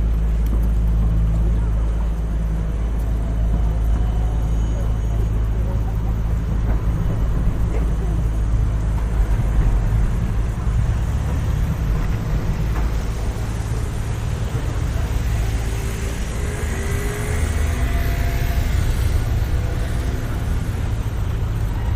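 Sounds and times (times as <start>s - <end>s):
faint voices of passers-by: 0.0s - 21.9s
road traffic rumble: 0.0s - 21.9s.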